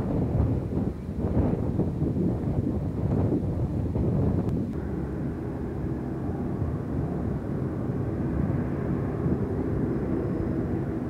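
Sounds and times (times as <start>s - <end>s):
piston aircraft engines droning: 0.0s - 11.0s.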